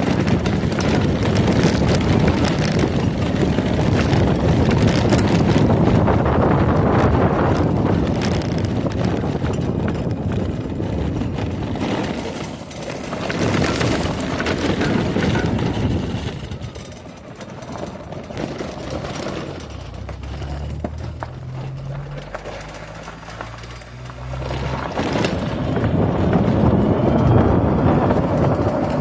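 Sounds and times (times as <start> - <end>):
wind on microphone: 0.0 - 22.0, 23.2 - 29.0
atv rumbling over rough ground: 0.0 - 29.0.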